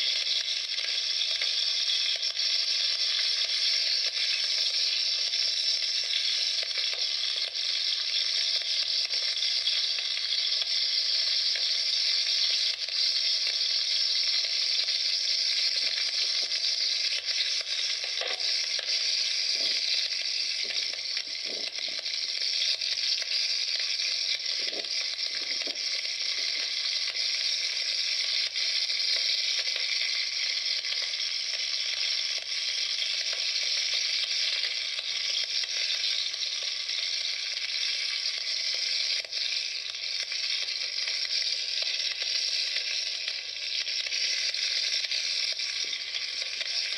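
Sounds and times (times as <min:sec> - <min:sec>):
campfire hissing: 0:00.0 - 0:46.9
fire popping: 0:00.0 - 0:46.9.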